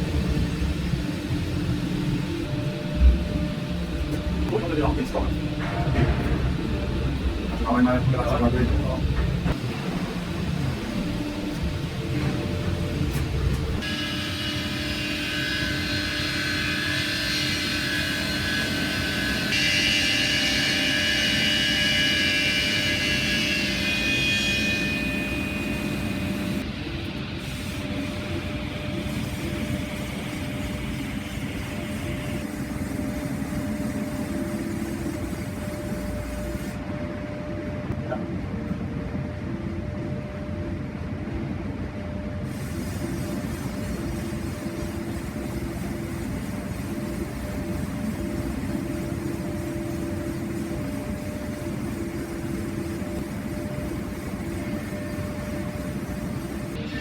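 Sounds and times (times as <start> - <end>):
sawmill machinery running: 0.0 - 36.8, 42.4 - 57.0
high-pitched whine: 0.0 - 57.0.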